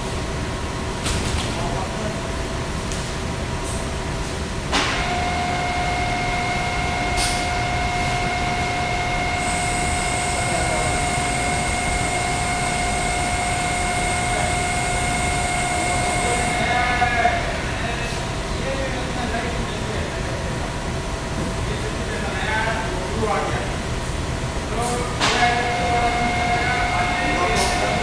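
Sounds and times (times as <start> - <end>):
steady machine whine: 1.7 - 28.0
machinery rumbling: 4.8 - 28.0.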